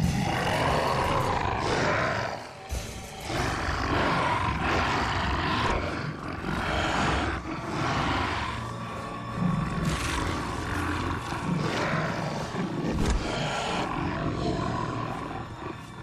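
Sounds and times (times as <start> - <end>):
animal growls and roars: 0.0 - 16.0
background music: 0.0 - 16.0.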